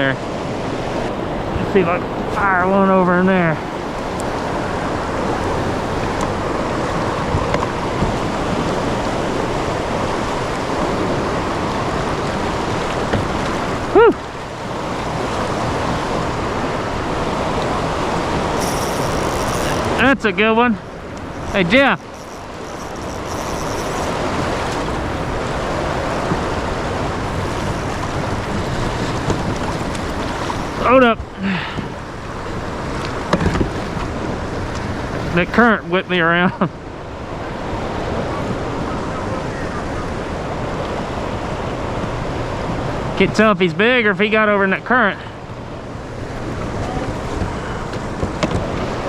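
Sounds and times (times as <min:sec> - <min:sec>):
turbulent river current rushing: 0:00.0 - 0:49.0.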